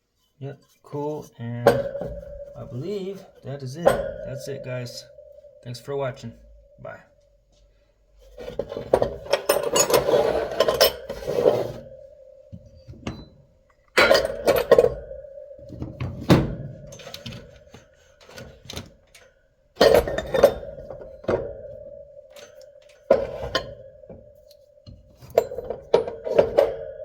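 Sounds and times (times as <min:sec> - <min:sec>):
steady ringing tone: 0:01.3 - 0:27.0
metallic clinks and knocks: 0:01.4 - 0:07.4, 0:08.2 - 0:27.0.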